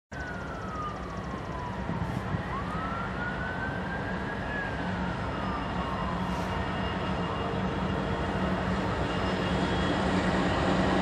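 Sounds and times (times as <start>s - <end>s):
diesel locomotive rumble: 0.1s - 11.0s
distant siren wailing: 0.1s - 11.0s.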